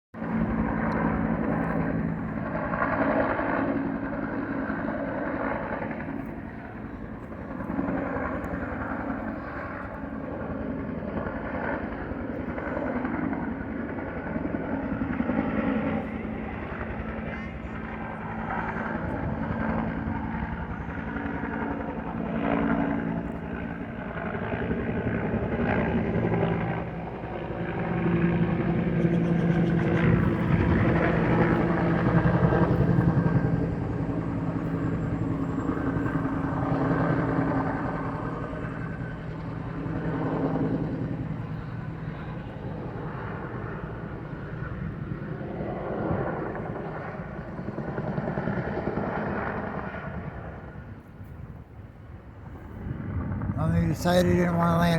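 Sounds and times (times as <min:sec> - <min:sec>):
helicopter rotor and engine: 0:00.1 - 0:54.9.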